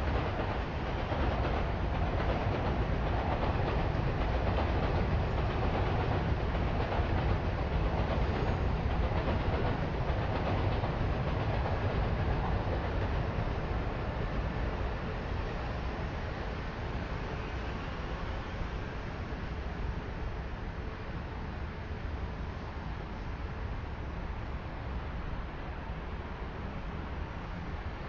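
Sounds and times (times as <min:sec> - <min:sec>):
city street noise: 0:00.0 - 0:28.0
train wheels on rails: 0:00.0 - 0:28.0.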